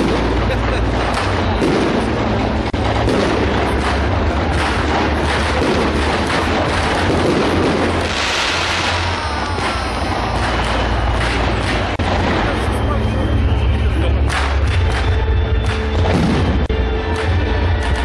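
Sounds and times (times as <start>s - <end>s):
fireworks bangs and crackling: 0.0s - 18.0s
whistling fireworks: 0.0s - 18.0s.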